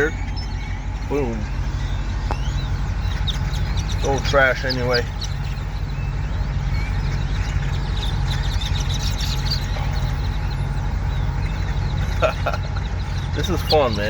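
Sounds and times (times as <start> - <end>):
short bird calls: 0.0 - 14.0
truck idling: 0.0 - 14.0.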